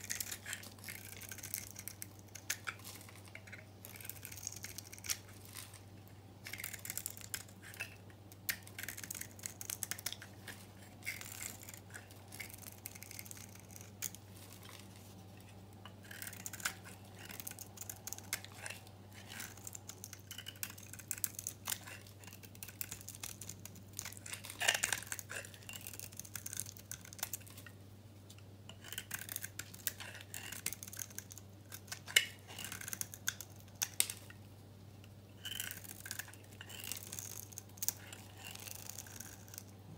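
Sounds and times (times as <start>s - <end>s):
knife shaving hard soap: 0.0s - 14.8s, 15.9s - 27.7s, 28.7s - 34.2s, 35.4s - 39.7s.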